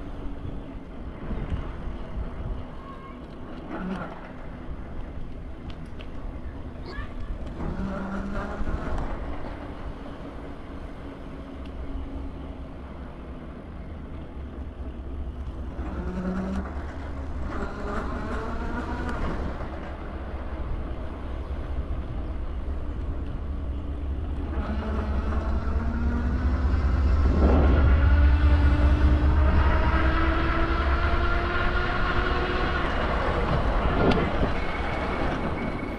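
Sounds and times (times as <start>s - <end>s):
heavy vehicle with rising whine: 0.0s - 35.9s
street traffic rumble: 0.0s - 35.9s.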